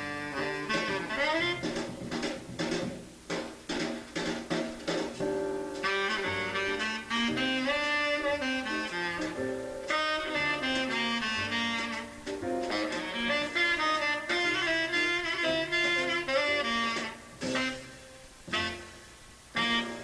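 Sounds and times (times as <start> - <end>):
jazz tenor saxophone: 0.0 - 2.4, 5.2 - 20.0
double bass: 0.0 - 3.0, 5.2 - 19.0.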